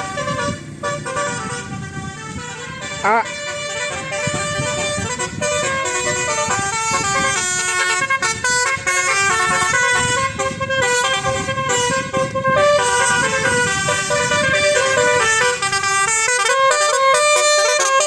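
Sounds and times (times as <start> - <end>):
bus musical horn melody: 0.0 - 18.0.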